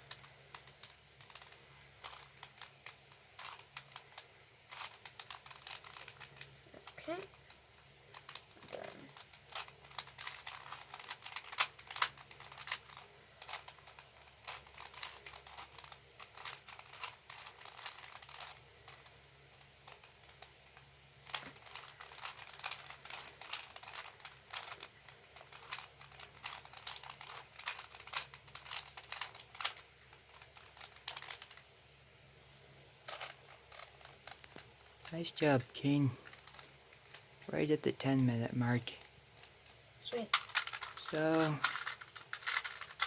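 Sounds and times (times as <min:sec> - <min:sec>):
puzzle cube plastic clicks: 0:00.0 - 0:31.8, 0:33.1 - 0:43.0.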